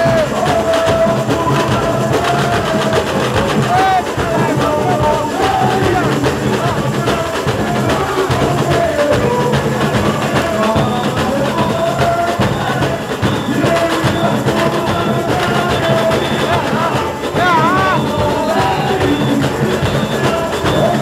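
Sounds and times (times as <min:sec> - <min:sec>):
samba drumming: 0:00.0 - 0:21.0
voices singing: 0:00.0 - 0:21.0.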